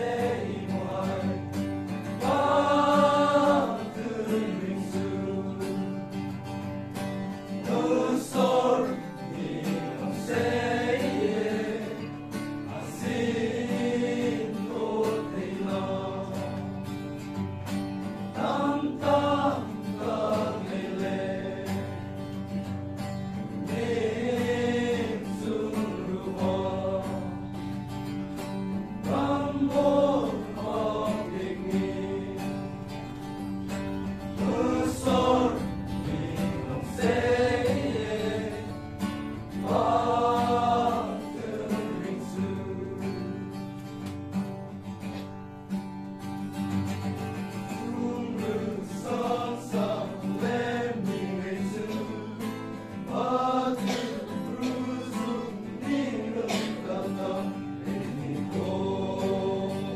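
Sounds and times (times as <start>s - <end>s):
male choir singing: 0.0s - 6.6s, 7.2s - 44.0s, 47.0s - 59.9s.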